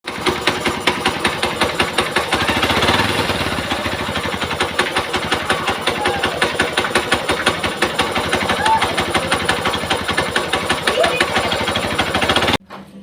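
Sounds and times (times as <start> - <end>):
ticking engine knock: 0.0 - 12.6
motorcycle engine idling: 0.1 - 12.6.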